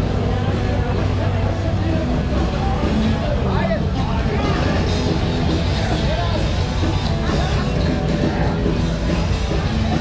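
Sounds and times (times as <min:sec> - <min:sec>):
live rock band playing loudly: 0:00.0 - 0:10.0.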